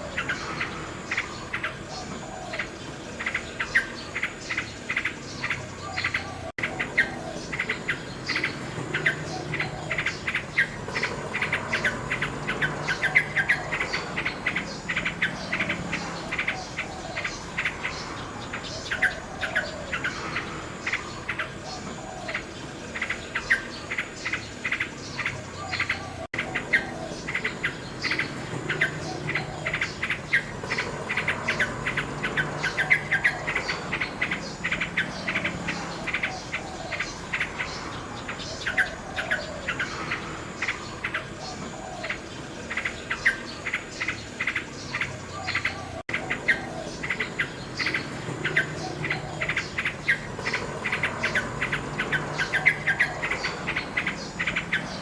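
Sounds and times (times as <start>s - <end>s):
insects chirping: 0.0s - 55.0s
nightingale singing: 0.0s - 55.0s.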